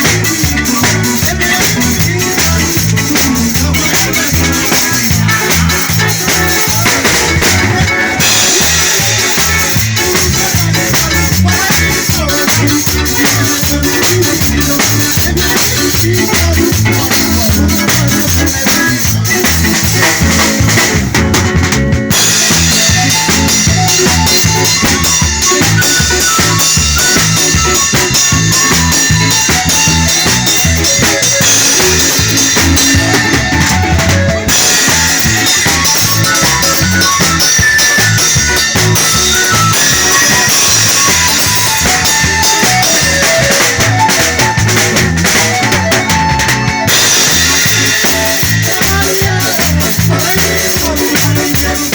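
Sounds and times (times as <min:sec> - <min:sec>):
drum kit beat: 0:00.0 - 0:51.9
live band music: 0:00.0 - 0:51.9.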